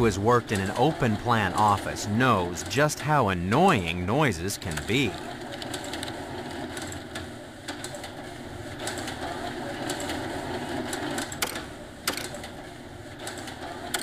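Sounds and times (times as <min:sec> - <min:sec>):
office murmur: 0:00.0 - 0:11.2.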